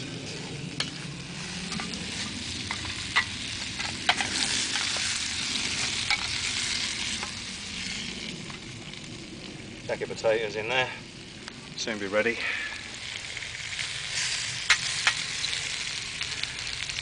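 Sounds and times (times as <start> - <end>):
vegetables sizzling in tins: 0.0 - 9.0, 11.7 - 17.0.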